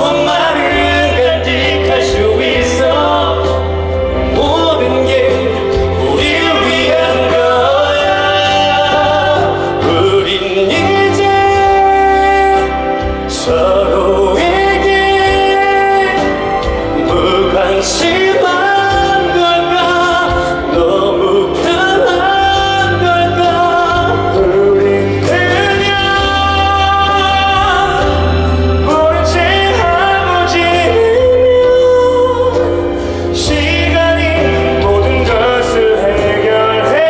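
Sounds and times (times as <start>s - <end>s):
live pop band: 0.0s - 37.0s.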